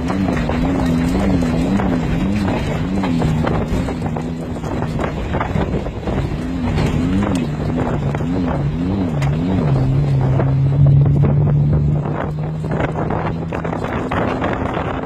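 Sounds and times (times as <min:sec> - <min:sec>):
car engine running: 0:00.0 - 0:15.0
wind buffeting microphone: 0:00.0 - 0:15.0.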